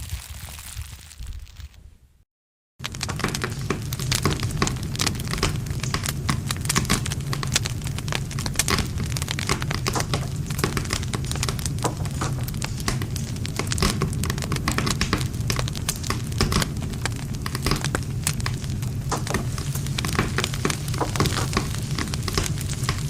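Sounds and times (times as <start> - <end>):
campfire crackling and popping: 0.0 - 1.7, 2.8 - 23.0
low rumble of flames: 2.8 - 23.0.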